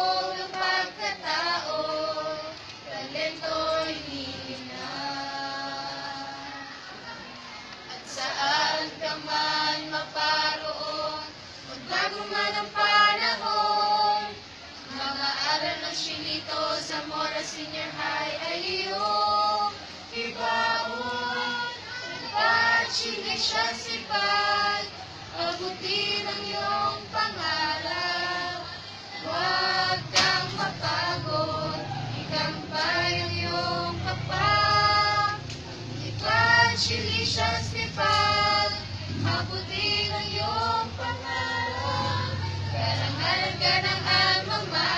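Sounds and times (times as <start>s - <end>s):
choir singing a hymn: 0.0s - 7.0s, 7.9s - 44.9s.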